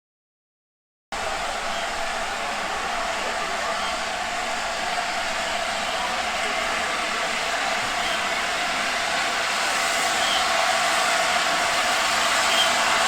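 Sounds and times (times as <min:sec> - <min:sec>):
steam locomotive hissing steam: 0:01.2 - 0:13.0.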